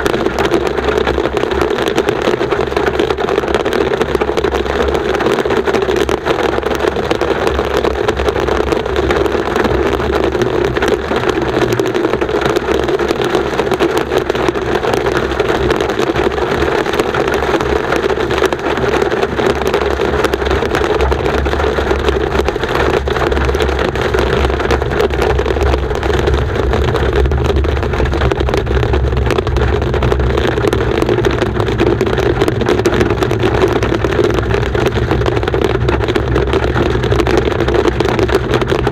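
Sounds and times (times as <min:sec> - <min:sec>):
car engine and tyre noise: 0:00.0 - 0:38.9
hail drumming on car roof: 0:00.0 - 0:38.9.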